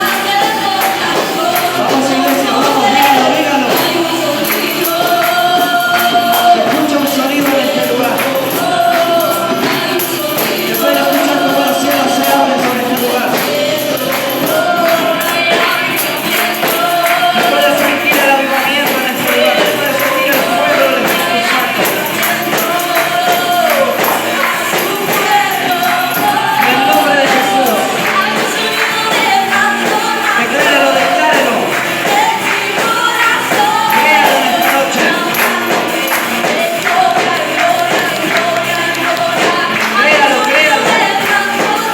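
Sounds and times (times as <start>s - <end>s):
jingling percussion: 0.0s - 41.9s
steady beat: 0.0s - 41.9s
voices singing worship song: 0.0s - 41.9s.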